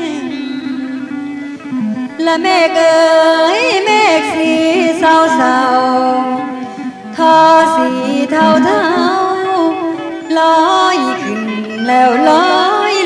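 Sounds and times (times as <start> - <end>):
woman singing: 0.0 - 1.0, 2.1 - 13.0.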